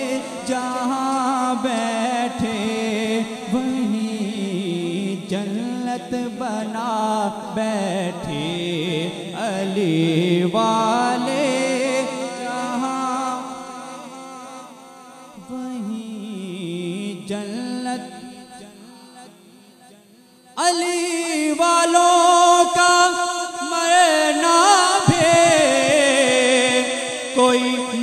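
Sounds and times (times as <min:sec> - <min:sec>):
man singing devotional song: 0:00.0 - 0:28.0.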